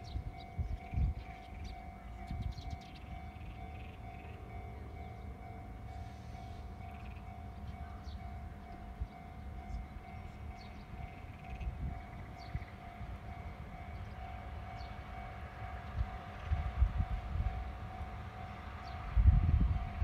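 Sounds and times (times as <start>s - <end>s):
constant mid-pitched tone: 0.0s - 20.0s
steady low rumble: 0.0s - 20.0s.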